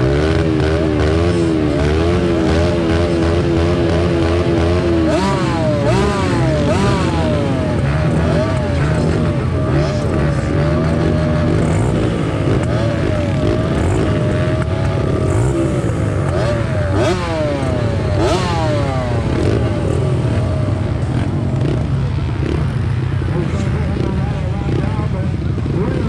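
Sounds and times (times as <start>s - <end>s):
sharp engine rev blips: 0.0s - 22.8s
motorbike engines idling and revving: 0.0s - 26.0s.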